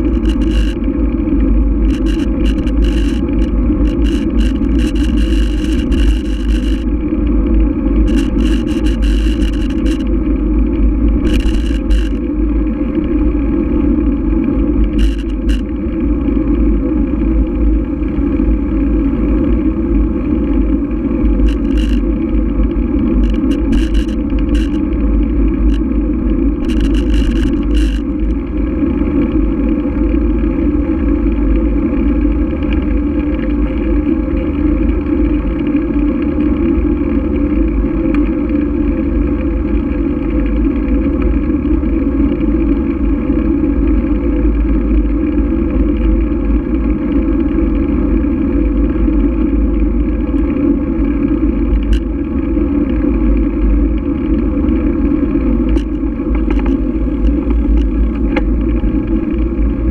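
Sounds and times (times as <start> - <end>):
bicycle tyre noise on asphalt: 0.0 - 59.9
wind rumble: 0.0 - 59.9.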